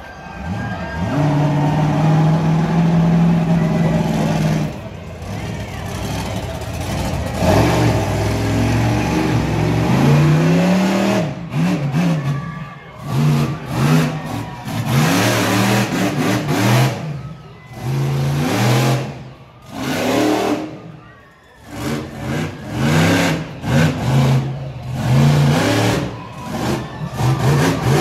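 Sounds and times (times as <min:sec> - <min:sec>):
truck engine revving: 0:00.4 - 0:21.0, 0:21.6 - 0:28.0.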